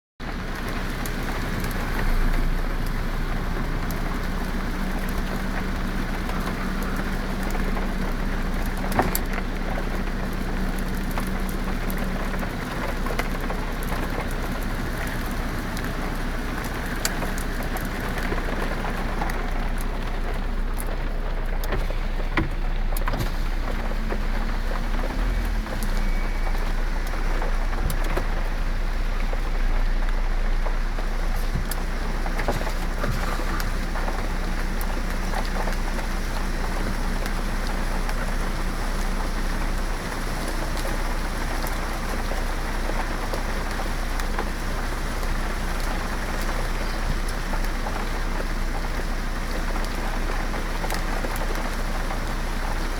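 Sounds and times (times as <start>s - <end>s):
heavy rain on hard surfaces: 0.2s - 52.9s.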